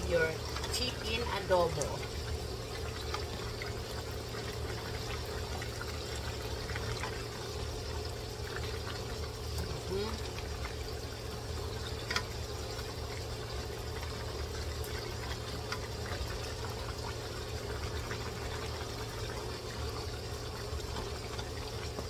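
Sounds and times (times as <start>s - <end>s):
food frying in a pan: 0.0s - 22.0s
low steady hum: 0.0s - 22.0s.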